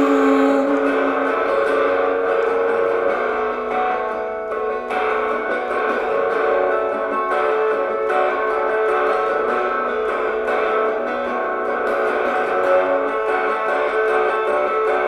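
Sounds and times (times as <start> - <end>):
electric guitar chords strummed: 0.0 - 15.0.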